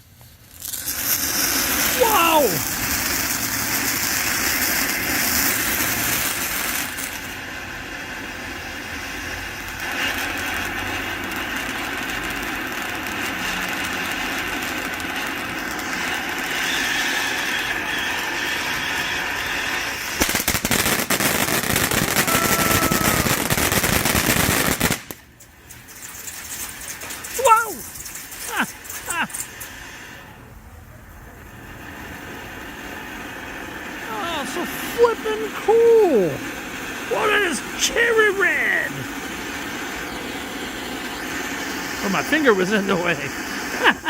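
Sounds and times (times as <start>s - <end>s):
firework fountain hissing: 0.0s - 44.0s
firework rapid crackle: 0.0s - 44.0s.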